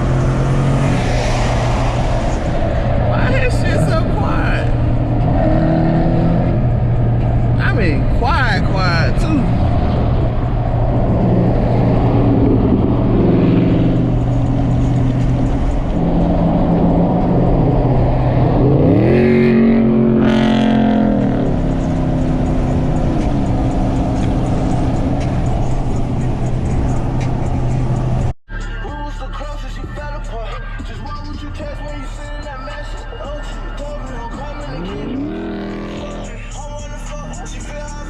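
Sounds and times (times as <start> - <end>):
car engine running and revving: 0.0 - 28.4, 29.4 - 38.0.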